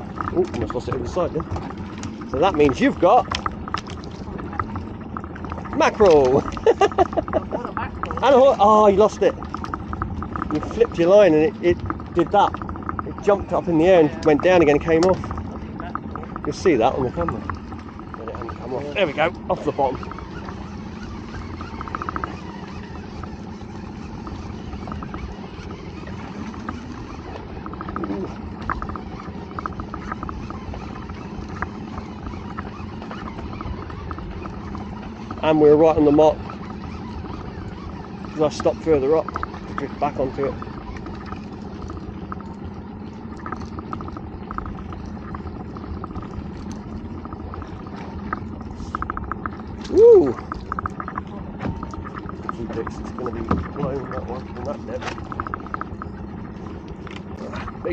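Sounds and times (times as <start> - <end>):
faint even hum: 0.0 - 57.9
outboard motor idling: 0.0 - 57.9
water around a boat: 0.0 - 57.9
wind: 0.0 - 57.9.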